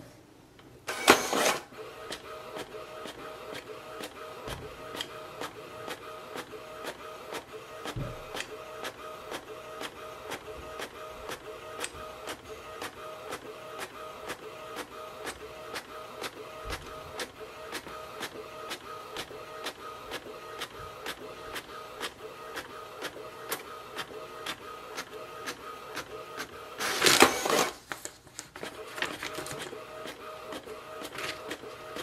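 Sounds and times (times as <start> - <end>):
paper feed whirring: 0.8 - 32.0
printer carriage ticking: 0.9 - 27.7
printer motor whine: 0.9 - 27.8, 28.6 - 32.0.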